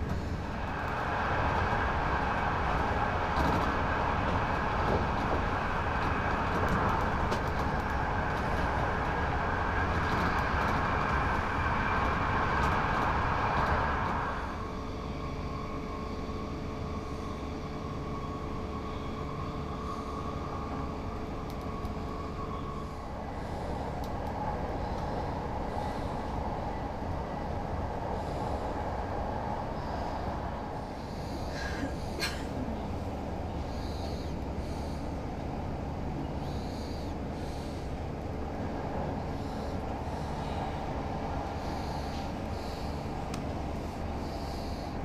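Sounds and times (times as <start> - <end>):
train rolling on rails: 0.0 - 45.0.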